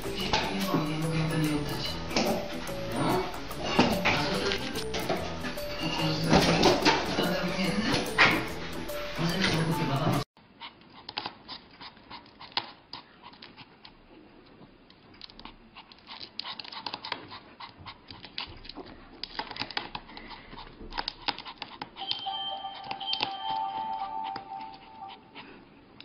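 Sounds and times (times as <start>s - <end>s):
dog panting: 0.0s - 22.1s, 22.7s - 26.0s.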